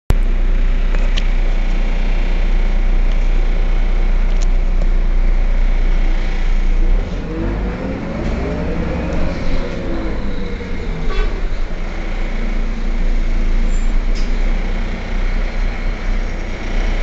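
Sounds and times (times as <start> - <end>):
bus diesel engine idling: 0.1 - 17.0.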